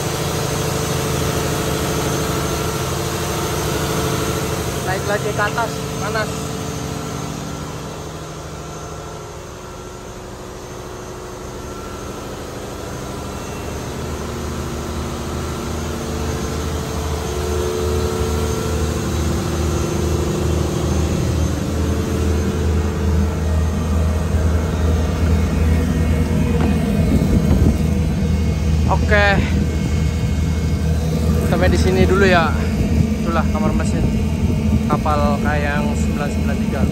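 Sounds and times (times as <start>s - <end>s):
boat engine hum: 0.0s - 36.9s
held machinery tones: 0.0s - 36.9s.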